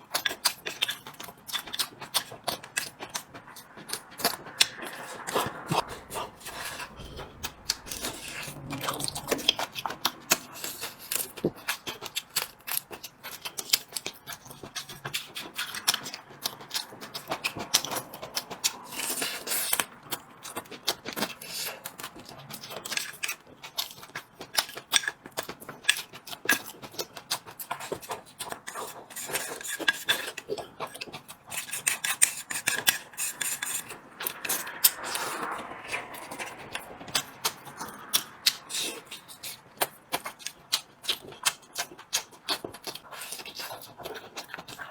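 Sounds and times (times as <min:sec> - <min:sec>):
chewing and mouth sounds: 0:00.0 - 0:44.9.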